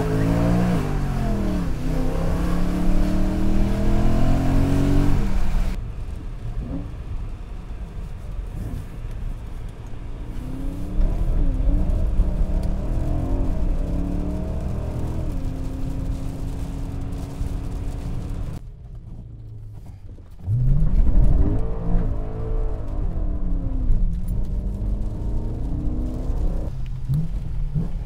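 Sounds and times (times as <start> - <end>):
car engine revving: 0.0 - 5.8, 8.4 - 28.0.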